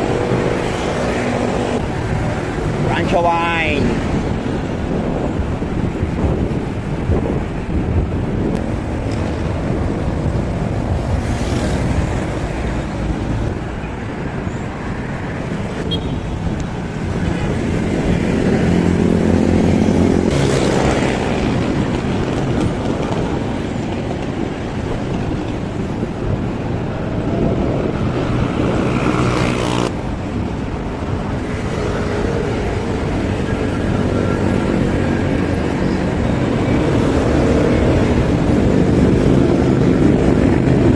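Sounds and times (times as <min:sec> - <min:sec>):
vehicles passing by: 0:00.0 - 0:40.9.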